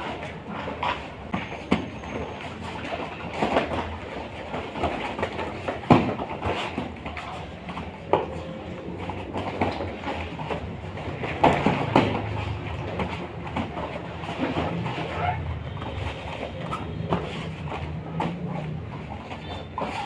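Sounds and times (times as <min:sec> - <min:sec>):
bare feet stamping on mats: 0:00.0 - 0:20.0
body thuds: 0:01.0 - 0:20.0.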